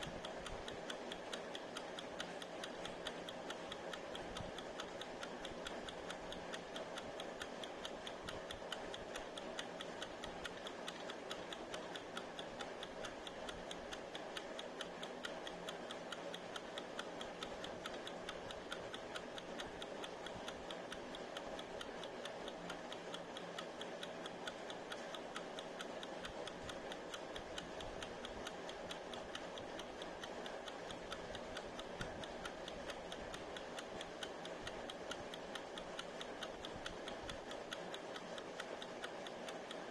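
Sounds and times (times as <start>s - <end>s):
kitchen timer ticking: 0.0s - 39.9s.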